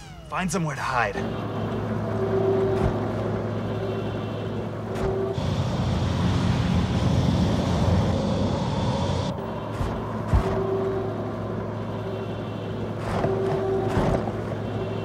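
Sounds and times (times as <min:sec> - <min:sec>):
robot tank engine hum: 0:00.0 - 0:15.0.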